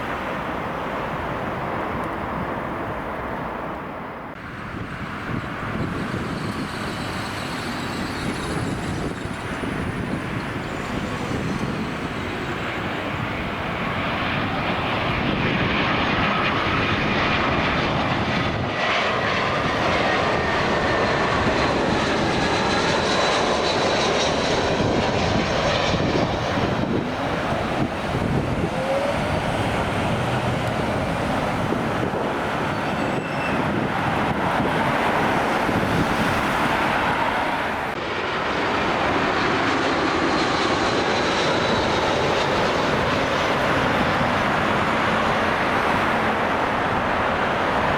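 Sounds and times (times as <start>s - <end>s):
jet engines roaring: 0.0s - 47.9s
faint engine whine: 2.9s - 47.9s.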